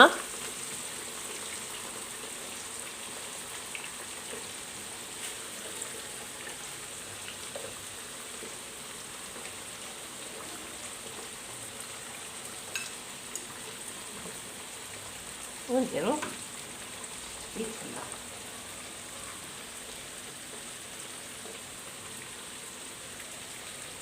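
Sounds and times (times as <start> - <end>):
potatoes frying in hot oil: 0.0 - 24.0.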